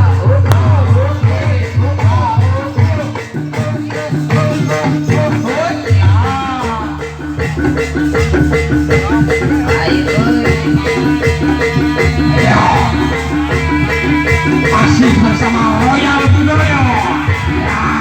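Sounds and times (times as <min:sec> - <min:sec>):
mallet-struck notes: 0:00.0 - 0:18.0.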